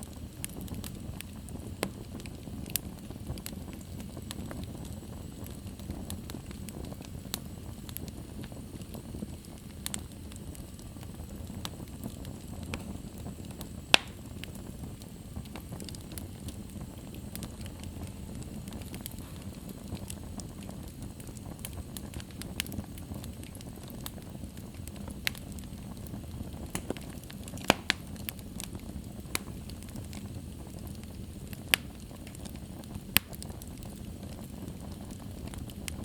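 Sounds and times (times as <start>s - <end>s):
fire crackles: 0.0s - 36.0s
fire popping: 0.0s - 36.0s
rush of flames: 0.0s - 36.0s.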